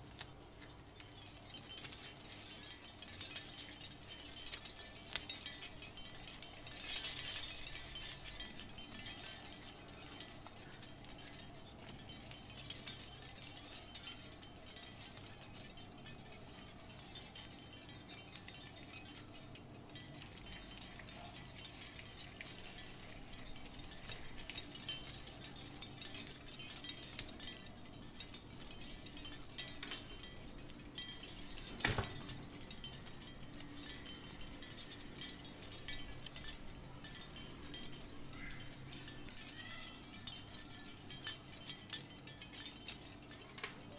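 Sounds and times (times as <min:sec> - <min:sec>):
small metal parts clicking: 0:01.0 - 0:43.9.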